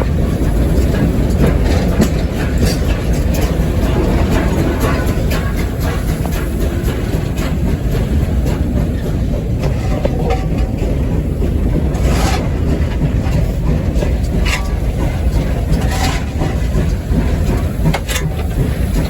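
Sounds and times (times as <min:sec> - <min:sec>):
knocks and clanks: 0:00.0 - 0:19.0
steam locomotive rumble: 0:00.0 - 0:19.0.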